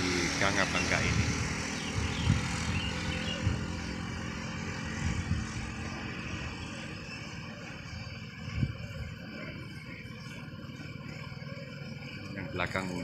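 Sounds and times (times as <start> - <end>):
truck diesel engines rumbling: 0.0 - 13.0.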